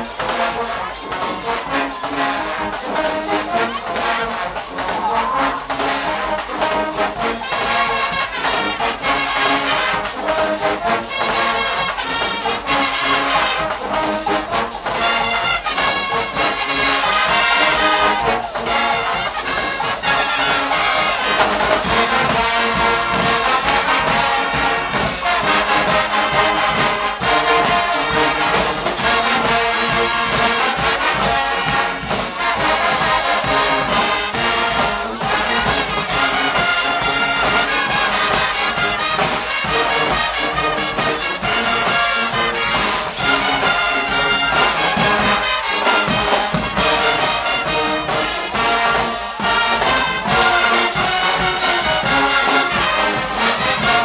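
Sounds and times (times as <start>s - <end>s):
brass band playing: 0.0s - 54.0s
steady drum beat: 0.0s - 54.0s.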